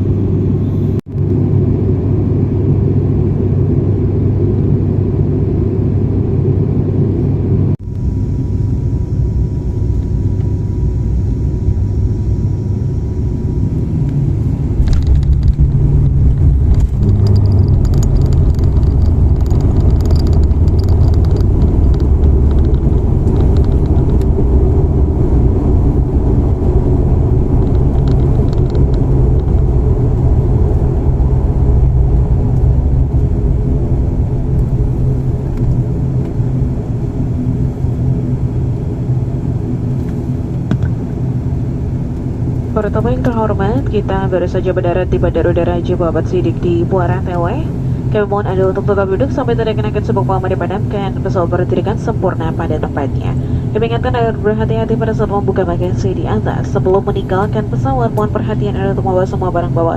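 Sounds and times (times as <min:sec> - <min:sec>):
airliner engines and propellers drone: 0:00.0 - 0:59.9.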